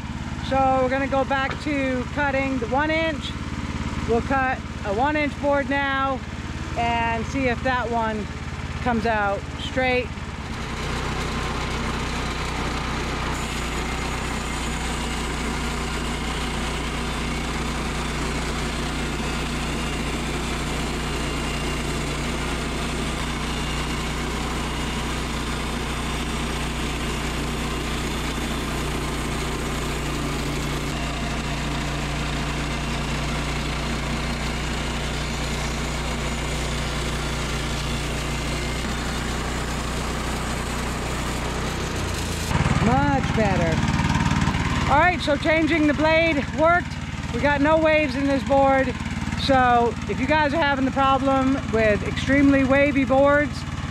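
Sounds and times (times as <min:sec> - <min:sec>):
bandsaw sawmill cutting wood: 0:00.0 - 0:53.9.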